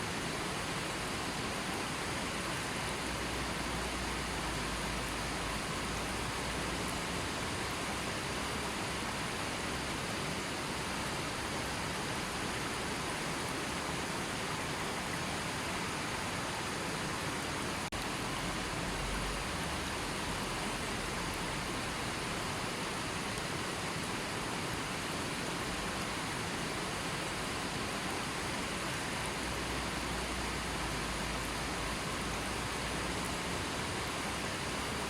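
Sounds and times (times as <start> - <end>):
river water flowing: 0.0 - 35.0.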